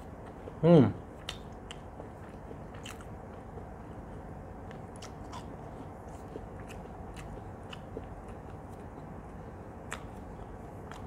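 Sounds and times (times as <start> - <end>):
person chewing fried food: 0.0 - 11.0.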